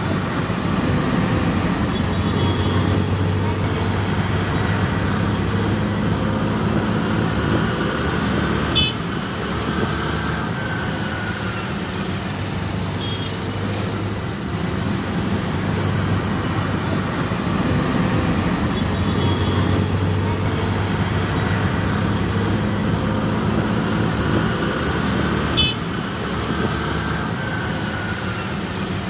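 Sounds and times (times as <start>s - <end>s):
auto-rickshaw engine running: 0.0s - 29.0s
road and traffic noise: 0.0s - 29.0s.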